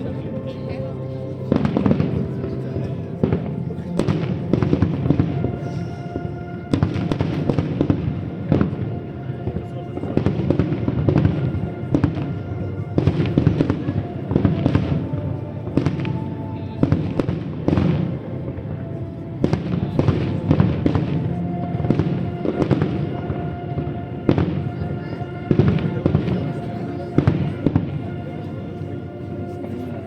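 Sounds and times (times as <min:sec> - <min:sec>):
fireworks bursting and crackling: 0:00.0 - 0:28.0
music: 0:00.0 - 0:30.0.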